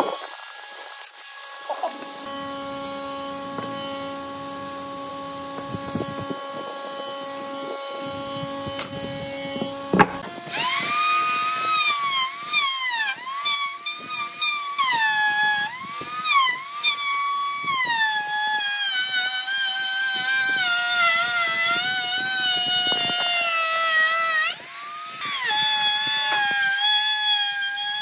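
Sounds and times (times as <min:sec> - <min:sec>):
bandsaw humming: 0:00.0 - 0:28.0
router whining in wood: 0:00.0 - 0:28.0.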